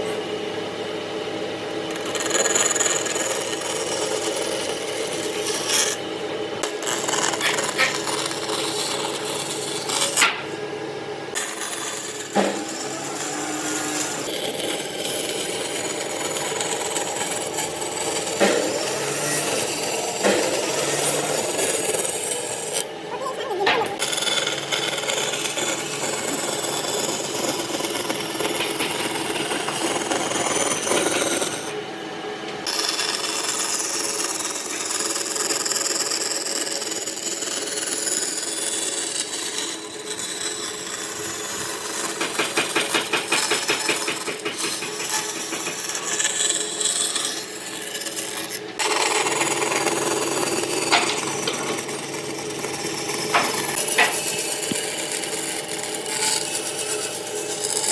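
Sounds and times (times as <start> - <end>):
hand tools rasping on wood: 1.9 - 6.0, 6.6 - 10.5, 11.4 - 31.7, 32.7 - 57.9.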